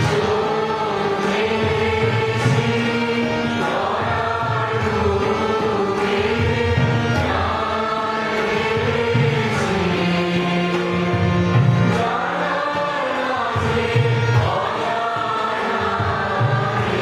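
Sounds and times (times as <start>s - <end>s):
harmonium: 0.0s - 17.0s
mixed chorus singing: 0.0s - 17.0s
tabla: 0.0s - 17.0s.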